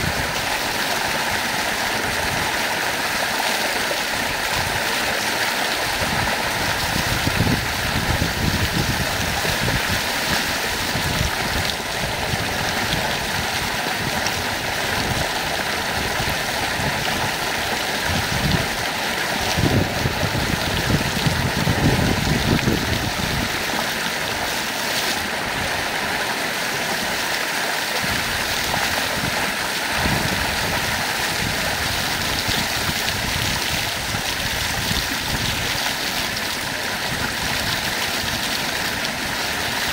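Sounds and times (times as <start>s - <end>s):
water gushing and splashing: 0.0s - 39.9s.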